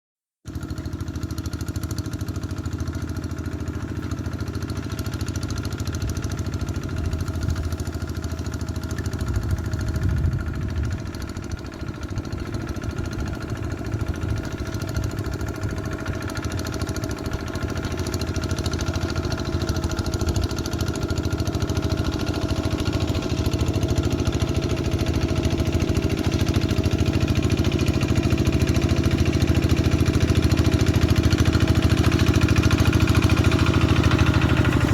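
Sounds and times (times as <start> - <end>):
diesel engine running: 0.5 - 34.9.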